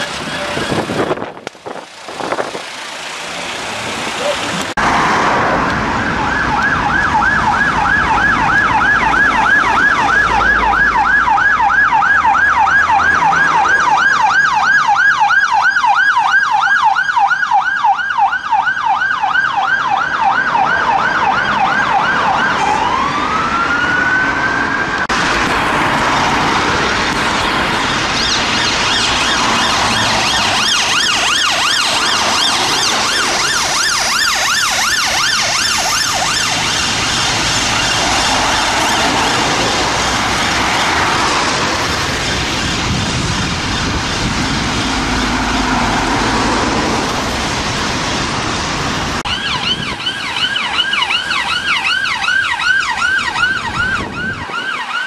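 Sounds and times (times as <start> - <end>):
police siren yelping and wailing: 0.0 - 1.4, 4.1 - 55.0
traffic noise: 0.0 - 55.0
high-pitched ambulance siren: 4.8 - 47.8, 49.1 - 55.0.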